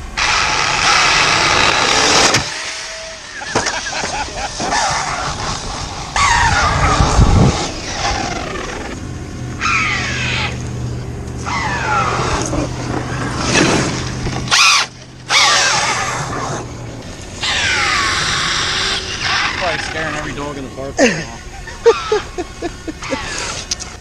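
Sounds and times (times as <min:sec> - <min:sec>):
electric motor whine: 0:00.0 - 0:20.9.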